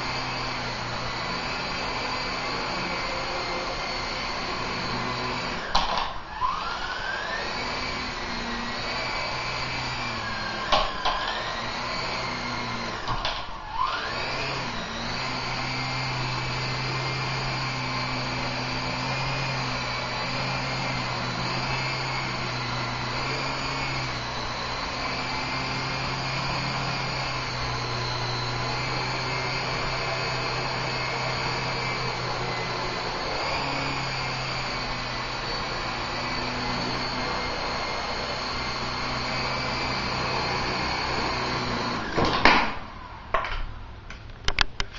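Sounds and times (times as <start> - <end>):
toy helicopter motor whining: 0.0 - 43.4.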